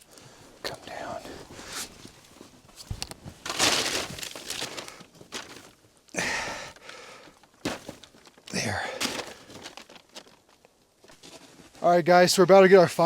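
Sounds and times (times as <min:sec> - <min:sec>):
tarp rustling and crinkling: 0:01.3 - 0:11.9.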